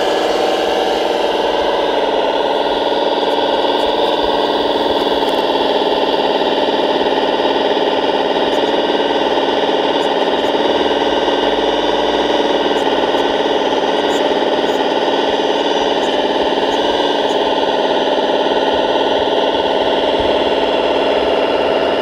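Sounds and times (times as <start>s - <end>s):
toy loader mechanical drone: 0.0s - 22.0s.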